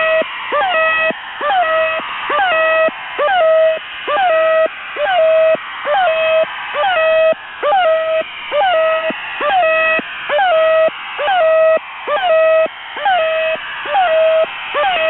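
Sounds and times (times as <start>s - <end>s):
radio squawk chirp: 0.0s - 15.0s.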